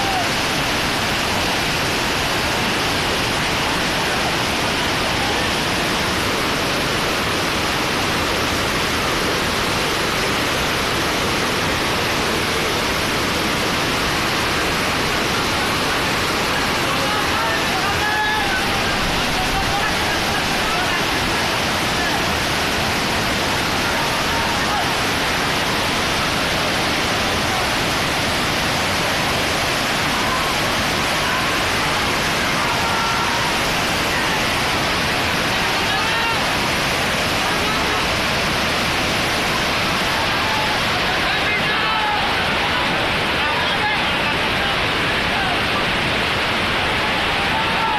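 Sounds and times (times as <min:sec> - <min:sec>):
river rushing over rocks: 0:00.0 - 0:47.9.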